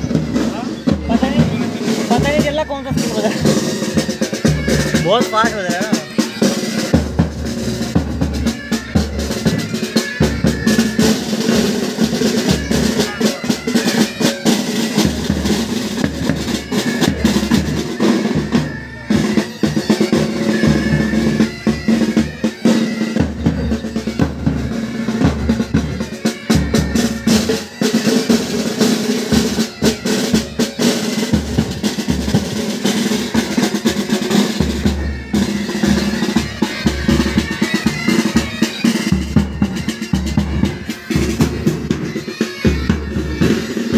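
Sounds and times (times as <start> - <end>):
bagpipes: 0.0 - 43.9.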